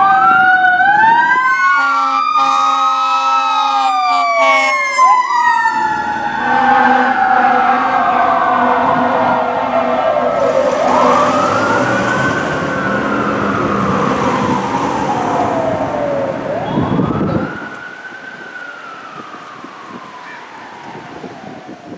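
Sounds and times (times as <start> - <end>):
mechanical fire siren wailing: 0.0 - 21.9.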